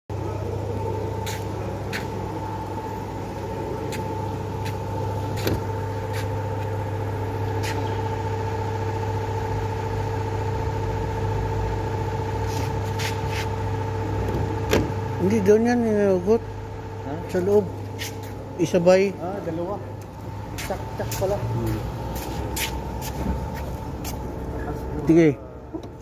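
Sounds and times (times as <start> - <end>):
steady mechanical hum: 0.1 - 26.0.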